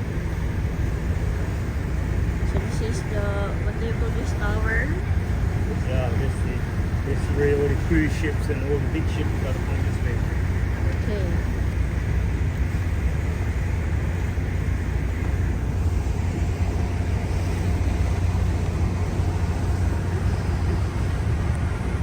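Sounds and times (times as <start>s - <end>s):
ferry engine rumble: 0.0s - 22.0s
water rushing: 0.0s - 22.0s.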